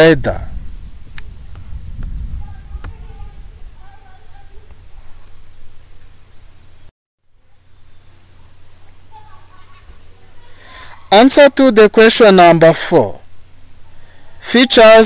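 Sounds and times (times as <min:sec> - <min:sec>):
cricket chirping: 0:00.5 - 0:15.0.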